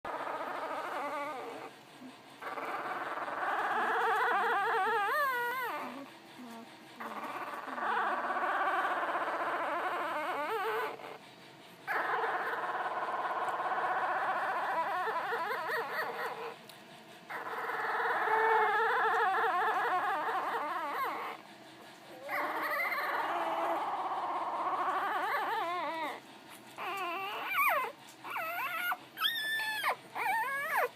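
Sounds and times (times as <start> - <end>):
puppies whimpering snores: 0.0 - 30.9.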